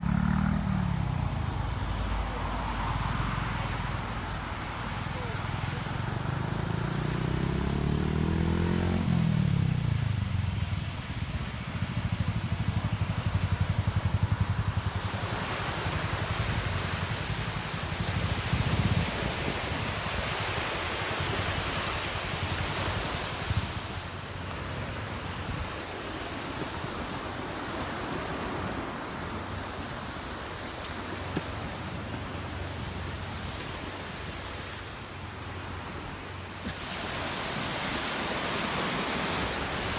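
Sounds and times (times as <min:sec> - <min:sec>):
low engine-like hum: 0:00.0 - 0:39.9
surf rushing: 0:00.0 - 0:39.9
wind: 0:00.0 - 0:39.9.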